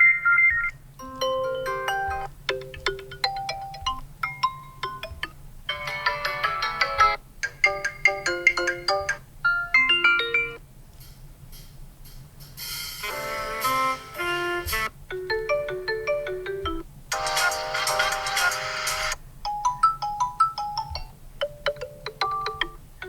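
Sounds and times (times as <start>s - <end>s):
fuller dense ringtone: 0.0s - 10.6s, 13.0s - 22.8s
ringtone melody of quick notes: 0.0s - 10.6s, 13.0s - 22.8s.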